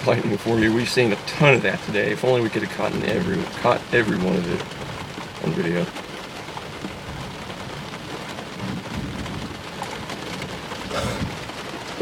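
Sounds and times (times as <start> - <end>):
heavy rain on car roof: 0.0 - 12.0
thunder rumbling: 0.0 - 12.0.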